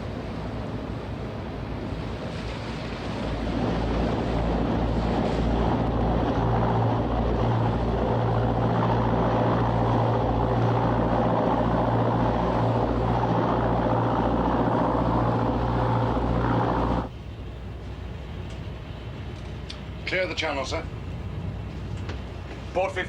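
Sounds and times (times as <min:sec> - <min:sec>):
ship engines throbbing: 0:00.0 - 0:22.6.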